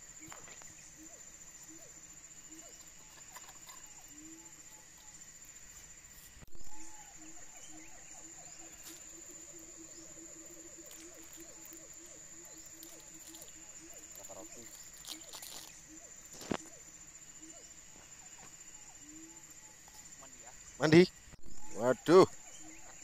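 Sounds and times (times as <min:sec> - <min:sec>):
insect low pulsing notes: 0:00.0 - 0:23.0
insects high-pitched trill: 0:00.0 - 0:23.0.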